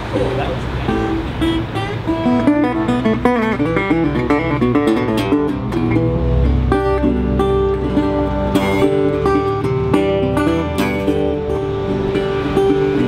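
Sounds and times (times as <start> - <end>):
resonator guitar fingerpicked: 0.0 - 13.0.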